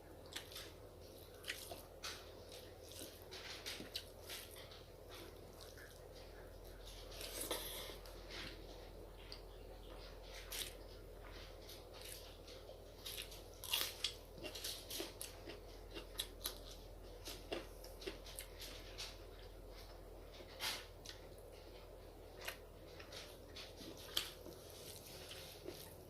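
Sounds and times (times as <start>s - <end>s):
person chewing food: 0.1s - 26.0s.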